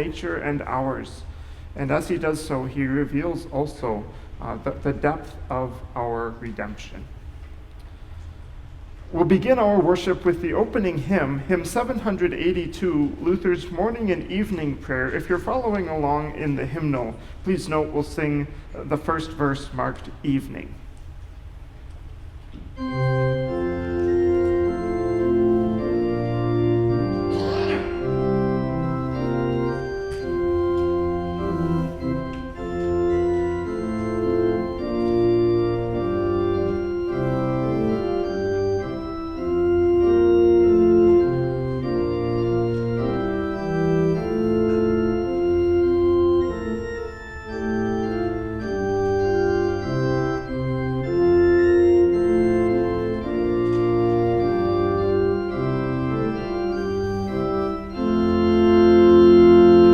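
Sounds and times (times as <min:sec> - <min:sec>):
church organ playing hymn: 0:00.0 - 0:08.2, 0:09.1 - 0:20.8, 0:22.5 - 0:59.9.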